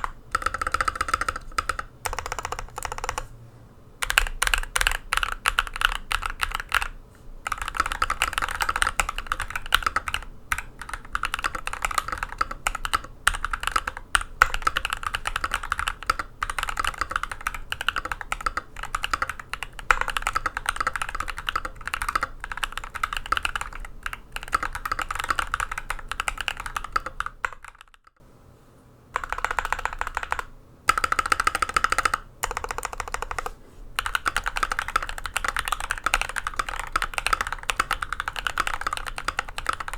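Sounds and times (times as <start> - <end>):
fast typing on mechanical keyboard: 0.0 - 3.3, 4.0 - 28.2, 29.2 - 39.9.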